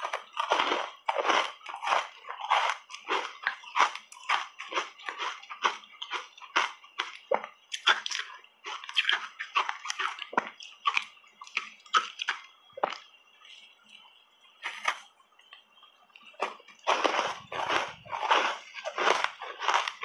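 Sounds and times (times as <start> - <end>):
wet chewing and lip-smacking: 0.0 - 14.1, 16.1 - 20.0.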